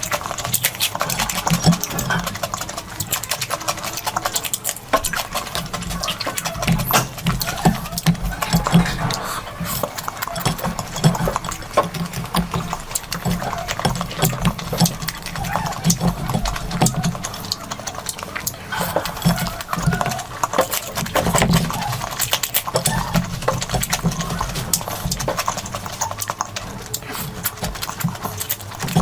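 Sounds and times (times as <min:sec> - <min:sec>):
chewing and mouth sounds: 0:00.0 - 0:29.0.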